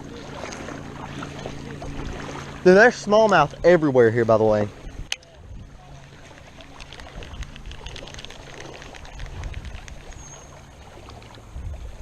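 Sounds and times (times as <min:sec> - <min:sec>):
creek water trickling: 0:00.0 - 0:12.0
wading splashes: 0:00.0 - 0:12.0.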